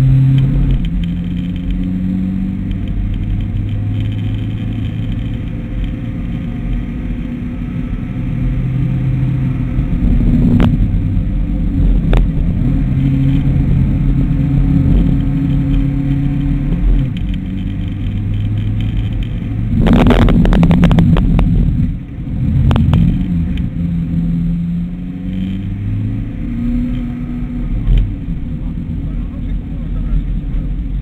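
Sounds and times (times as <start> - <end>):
car engine through gear changes: 0.0 - 31.0
road noise: 0.0 - 31.0.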